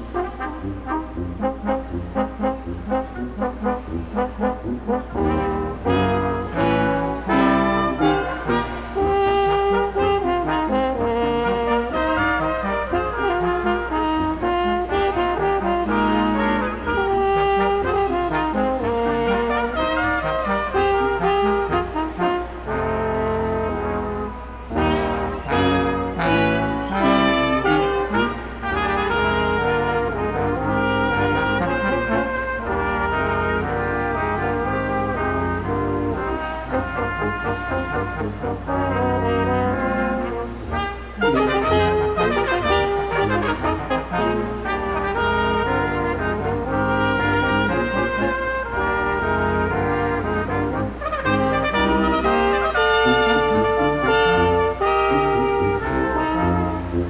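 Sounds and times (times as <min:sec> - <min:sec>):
brass ensemble playing christmas music: 0:00.0 - 0:57.0.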